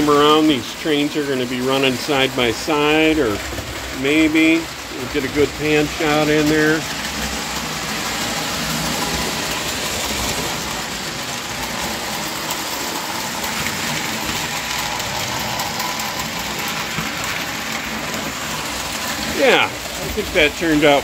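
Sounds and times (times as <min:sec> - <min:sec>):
model trains whirring on rails: 0:00.0 - 0:21.0.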